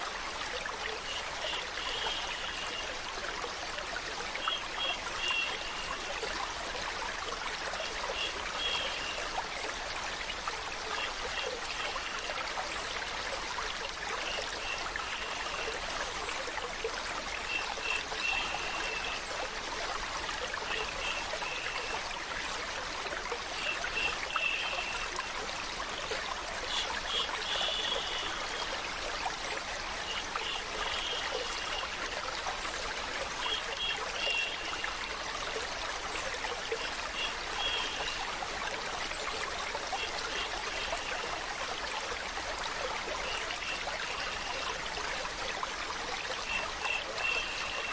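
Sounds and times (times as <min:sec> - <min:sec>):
flowing water: 0:00.0 - 0:47.9.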